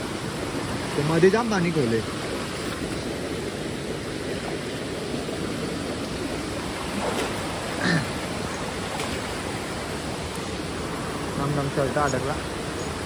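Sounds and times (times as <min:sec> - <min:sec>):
stream water over rocks: 0:00.0 - 0:13.0.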